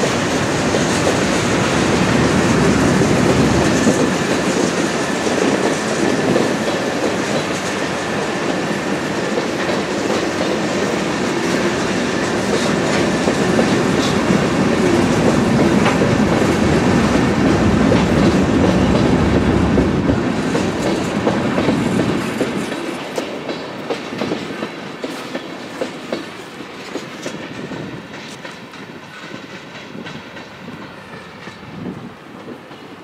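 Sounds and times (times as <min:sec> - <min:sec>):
freight train rumbling past: 0:00.0 - 0:33.0
train wheel clicks: 0:00.0 - 0:33.0.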